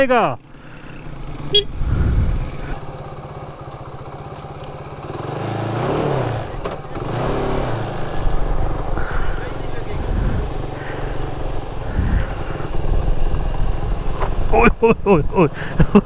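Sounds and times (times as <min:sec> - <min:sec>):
motorcycle engine revving: 0:00.4 - 0:14.7.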